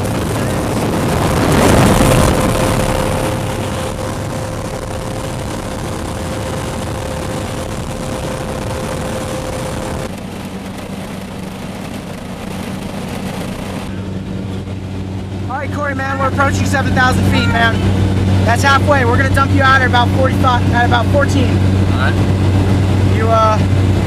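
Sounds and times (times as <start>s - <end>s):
light aircraft engine droning: 0.0s - 24.0s.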